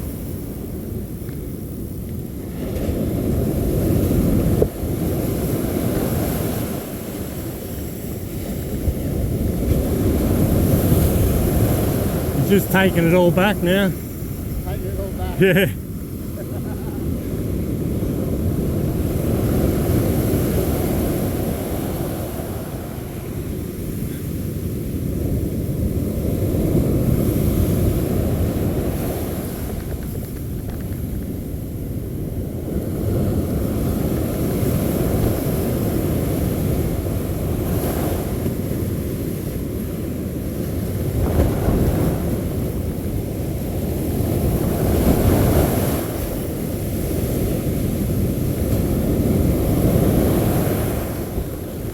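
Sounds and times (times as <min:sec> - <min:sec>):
surf breaking on beach: 0:02.4 - 0:31.2, 0:32.3 - 0:51.9.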